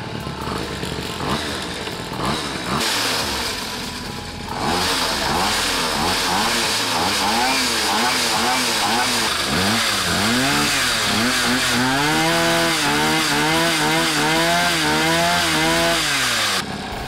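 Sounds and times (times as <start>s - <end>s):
small petrol engine revving: 0.0s - 17.0s.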